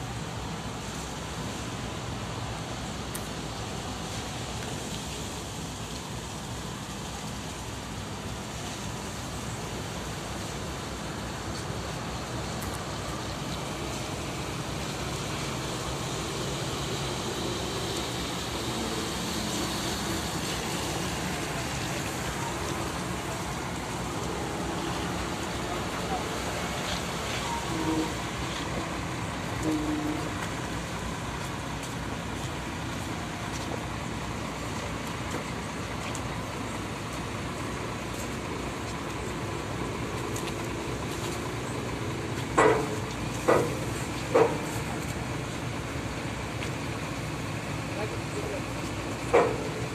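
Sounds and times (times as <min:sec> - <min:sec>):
constant hiss: 0:00.0 - 0:49.9
low engine rumble: 0:00.0 - 0:49.9.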